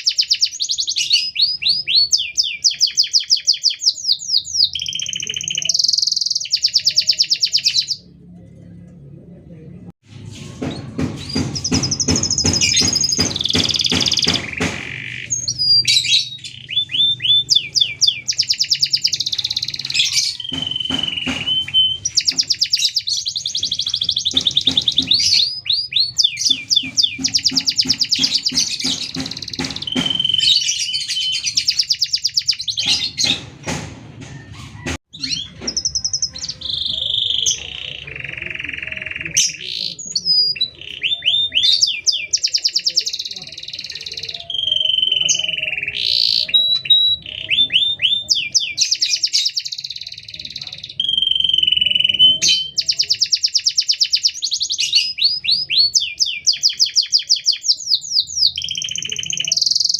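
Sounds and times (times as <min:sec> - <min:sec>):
canary singing trills: 0:00.0 - 0:08.3, 0:11.0 - 0:33.5, 0:35.1 - 0:59.9.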